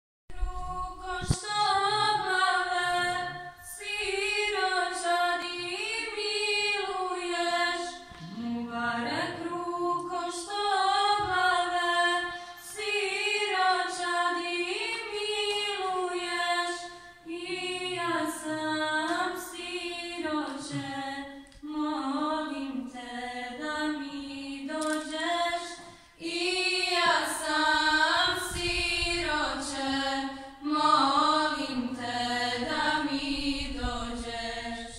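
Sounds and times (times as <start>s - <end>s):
women's choir singing: 0.4s - 34.9s.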